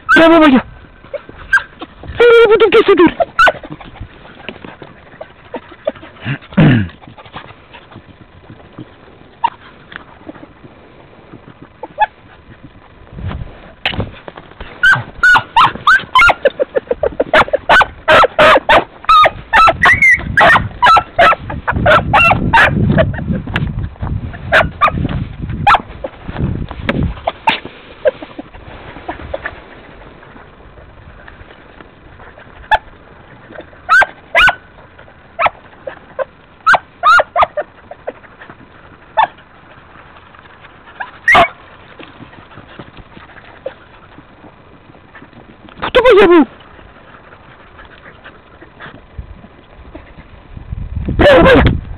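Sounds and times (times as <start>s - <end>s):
dogs baying in high yelps: 0.0s - 10.6s, 11.4s - 13.0s, 14.6s - 23.3s, 24.3s - 25.0s, 25.6s - 26.2s, 27.1s - 50.3s.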